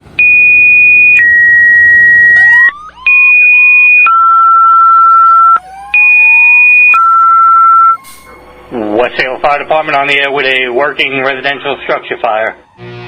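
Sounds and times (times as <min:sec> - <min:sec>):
sirens wailing: 0:00.0 - 0:13.0
two-tone dispatch alert: 0:00.2 - 0:12.7.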